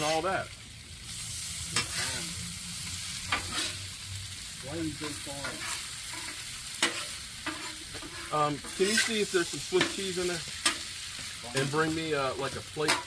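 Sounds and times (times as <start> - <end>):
meat sizzling while frying: 0.0 - 13.0.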